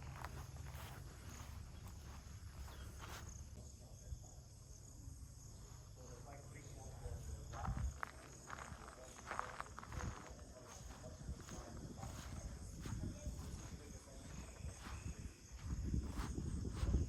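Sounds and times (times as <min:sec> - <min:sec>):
insects chirping: 0:00.0 - 0:17.0
steady low rumble: 0:00.0 - 0:17.0.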